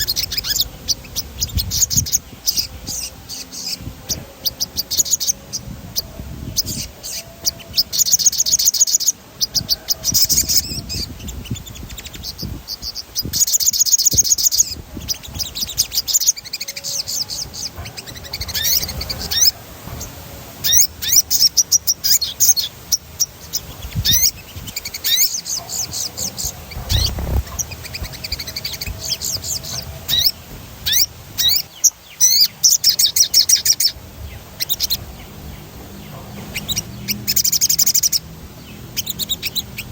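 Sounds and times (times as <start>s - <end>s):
bird singing rolling trills: 0.0s - 39.9s.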